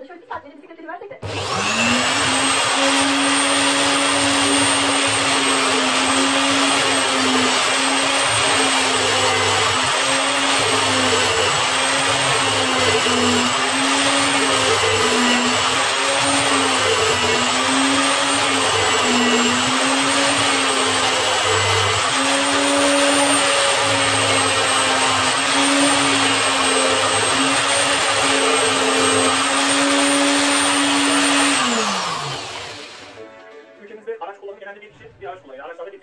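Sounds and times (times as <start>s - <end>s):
power tool motor whining: 1.2s - 33.2s.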